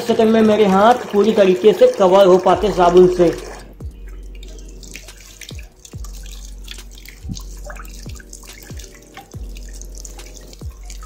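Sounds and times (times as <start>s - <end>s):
soapy hands rubbing: 0.0s - 11.0s
tap water running: 0.0s - 11.0s.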